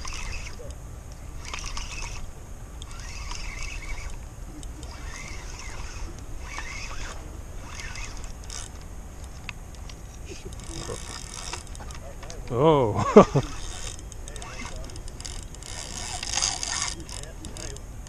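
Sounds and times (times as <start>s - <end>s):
bursts of hiss and scraping: 0.0s - 18.0s.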